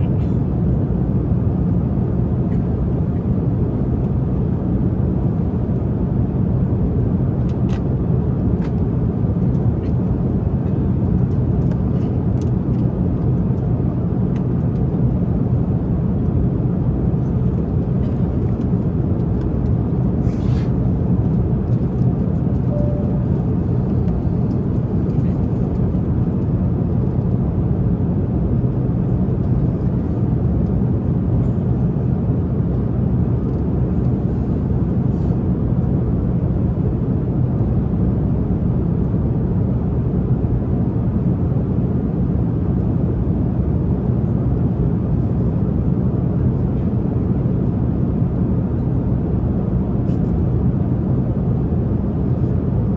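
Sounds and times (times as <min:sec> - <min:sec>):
airliner cabin drone: 0:00.0 - 0:52.9.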